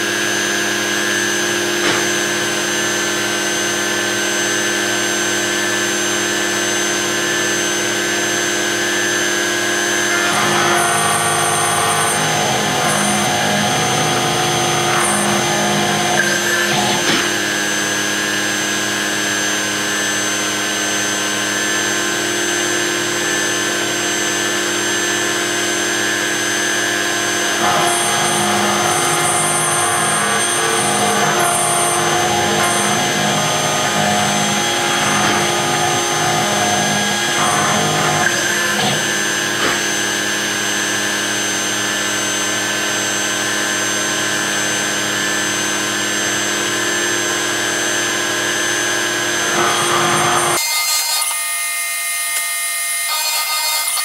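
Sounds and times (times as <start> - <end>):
router spindle engraving metal: 0.0 - 54.0.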